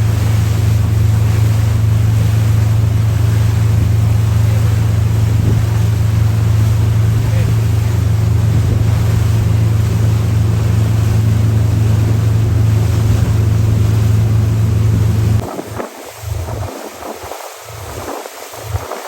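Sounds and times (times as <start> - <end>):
motorboat engine running: 0.0 - 19.0
water wash: 0.0 - 19.0
wind on microphone: 0.0 - 19.0.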